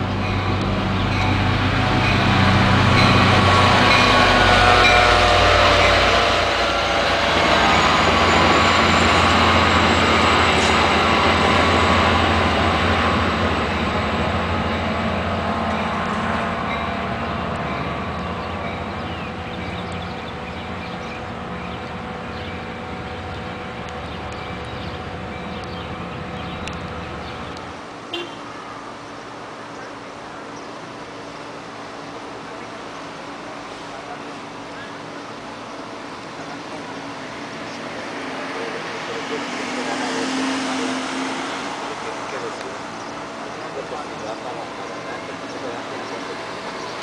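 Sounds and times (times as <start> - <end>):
train rolling past: 0.0 - 47.0.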